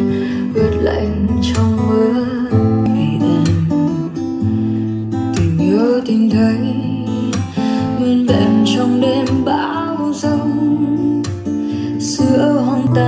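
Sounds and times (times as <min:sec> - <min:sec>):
acoustic guitar song with singing: 0:00.0 - 0:13.0.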